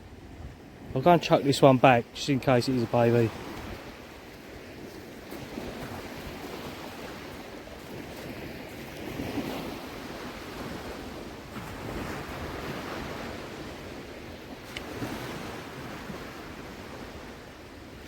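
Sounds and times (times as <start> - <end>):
small waves washing on shore: 0.0 - 18.0.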